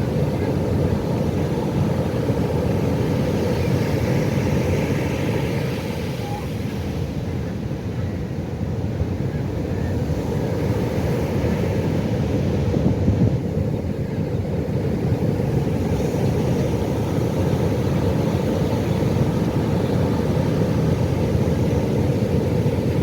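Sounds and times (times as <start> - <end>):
ocean waves washing: 0.0 - 23.0.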